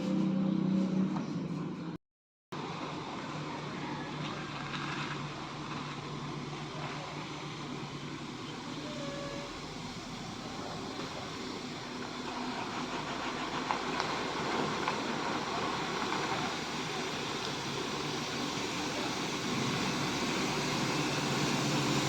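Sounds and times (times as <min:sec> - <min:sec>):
bus engine running: 0:02.6 - 0:22.0.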